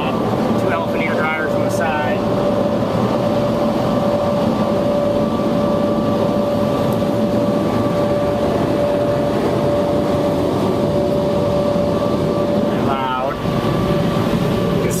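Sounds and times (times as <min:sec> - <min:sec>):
car wash air blowers running: 0:00.0 - 0:15.0.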